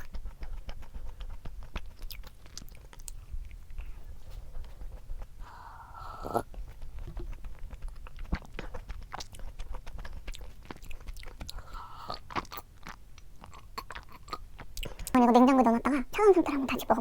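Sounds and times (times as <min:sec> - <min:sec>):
chewing and biting snack cake: 0:00.0 - 0:15.8.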